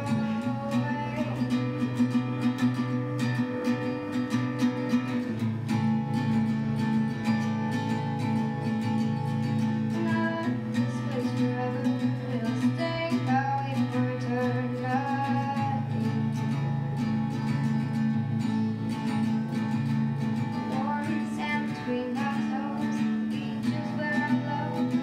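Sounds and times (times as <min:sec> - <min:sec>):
girl singing: 0:00.0 - 0:04.9, 0:07.2 - 0:17.9, 0:20.4 - 0:25.0
acoustic guitar strumming: 0:00.0 - 0:25.0.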